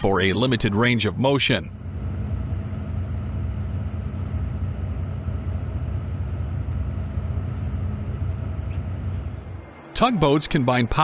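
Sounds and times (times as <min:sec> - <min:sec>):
engine rumble: 0:00.0 - 0:11.0
low hum: 0:00.0 - 0:11.0.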